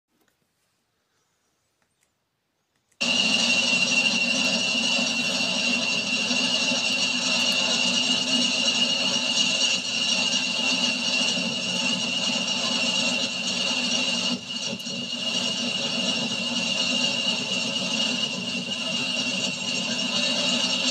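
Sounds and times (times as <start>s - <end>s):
diesel locomotive engine running: 3.0s - 20.9s
high turbocharger whistle: 3.0s - 20.9s.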